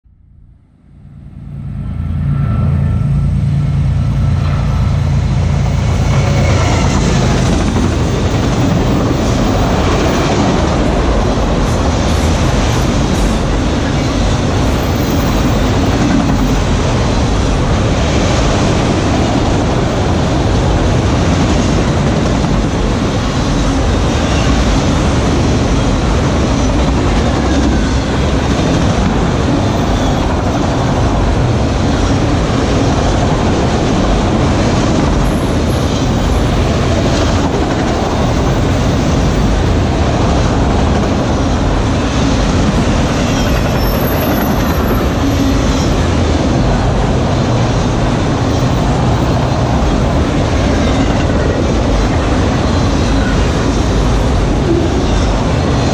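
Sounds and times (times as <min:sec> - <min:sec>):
train wheels rumbling on rails: 0:01.1 - 0:55.9.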